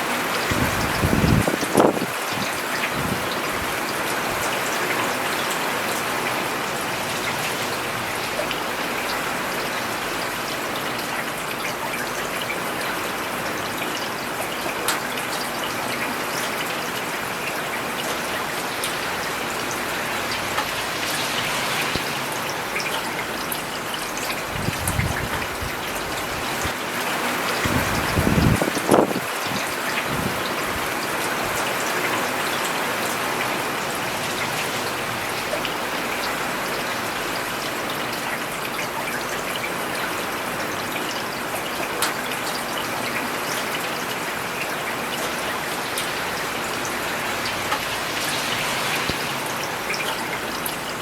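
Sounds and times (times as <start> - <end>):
rain on a paved road: 0.0 - 51.0.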